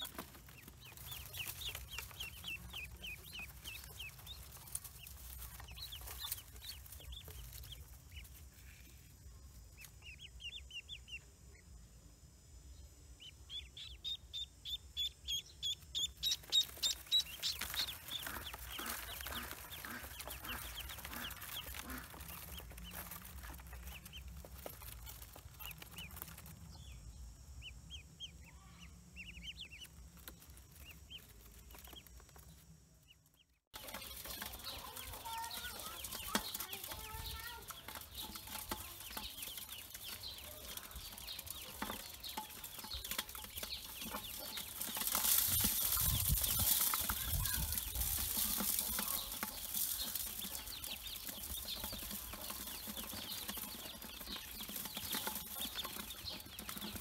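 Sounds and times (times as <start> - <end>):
ducklings peeping: 0.0 - 11.6, 13.1 - 57.0.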